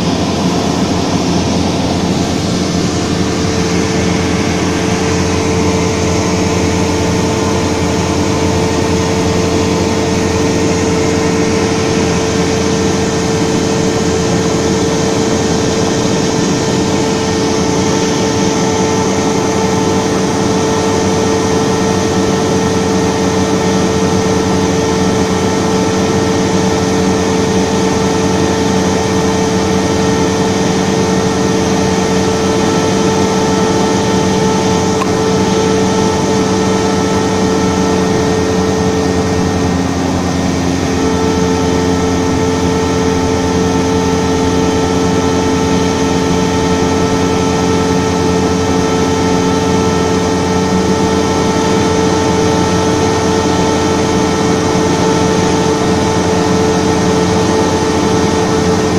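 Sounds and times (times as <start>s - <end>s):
airflow noise: 0.0s - 58.9s
plane engine droning: 0.0s - 58.9s.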